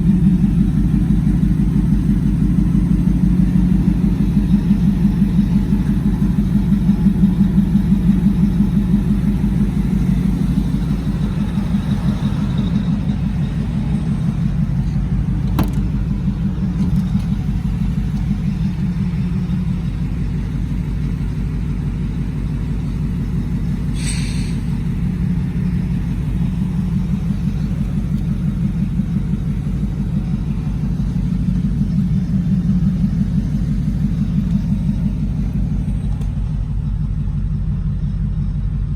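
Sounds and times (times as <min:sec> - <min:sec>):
truck engine idling rumble: 0:00.0 - 0:38.9.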